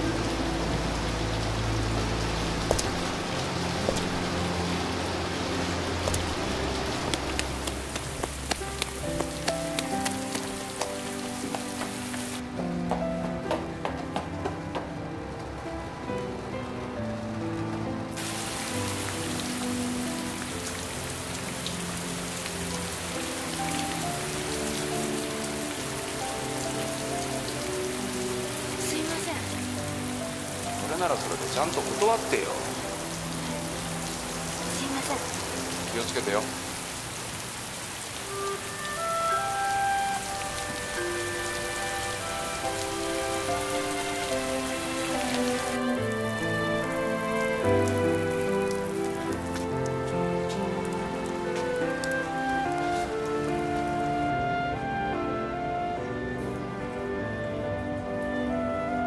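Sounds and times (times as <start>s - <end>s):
water drips and splashes: 0.0s - 12.5s, 18.1s - 54.6s
heavy rain hissing: 0.0s - 12.7s, 18.0s - 59.0s
low music score: 0.0s - 59.0s.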